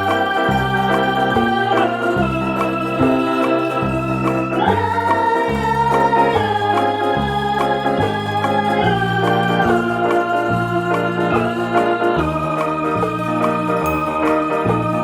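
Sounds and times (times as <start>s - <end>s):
bass line: 0.0s - 15.0s
electronic keyboard chords: 0.0s - 15.0s.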